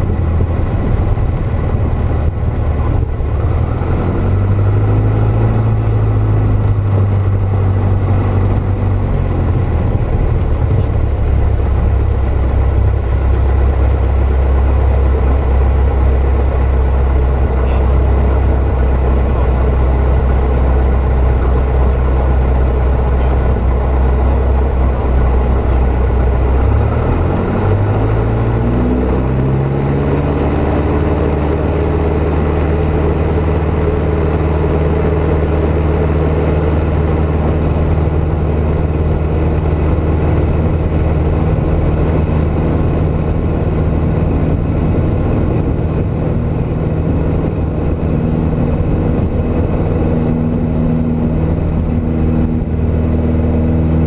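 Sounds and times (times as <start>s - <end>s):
propeller aircraft engine revving: 0.0s - 54.0s.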